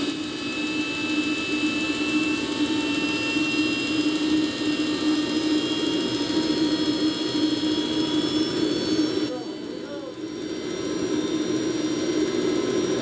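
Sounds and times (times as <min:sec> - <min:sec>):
high turbine whine: 0:00.0 - 0:13.0
turbojet engine roar: 0:00.0 - 0:13.0.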